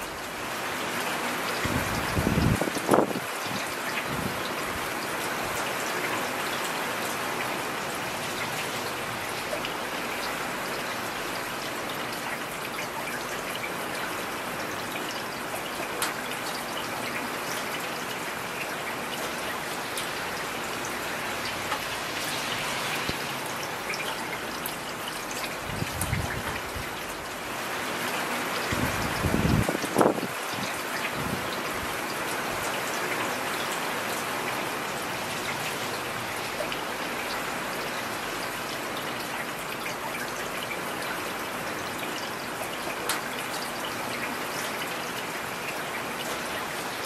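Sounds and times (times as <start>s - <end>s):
heavy rain: 0.0s - 47.0s.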